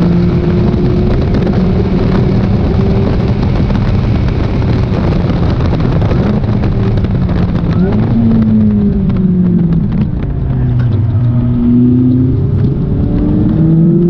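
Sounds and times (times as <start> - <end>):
car engine pulling at speed: 0.0 - 14.0
rush of wind and road noise: 0.0 - 14.0.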